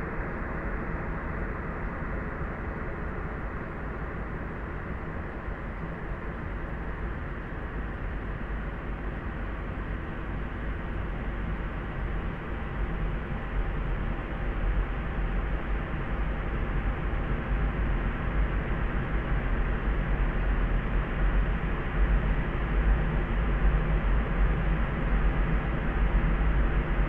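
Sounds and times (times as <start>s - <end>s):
muffled low layered noise: 0.0s - 27.0s.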